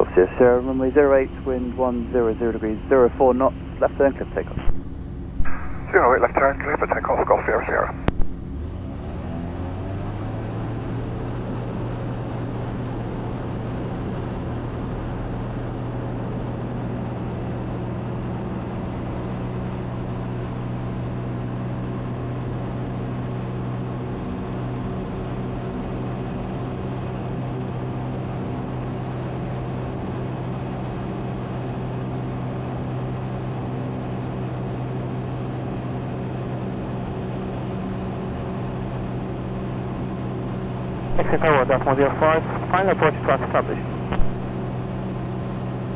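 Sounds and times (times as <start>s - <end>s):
light aircraft engine drone: 0.0s - 45.9s.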